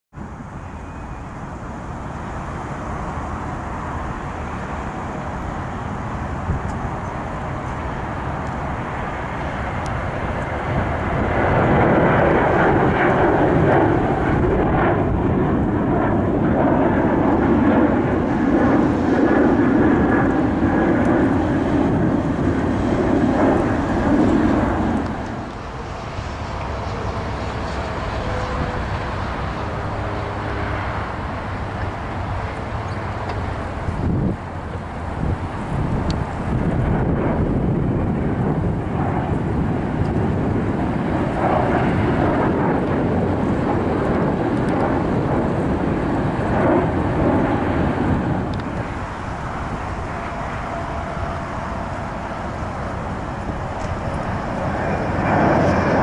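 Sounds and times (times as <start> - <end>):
airliner engine roar: 0.1 - 56.0
low airport rumble: 0.1 - 56.0.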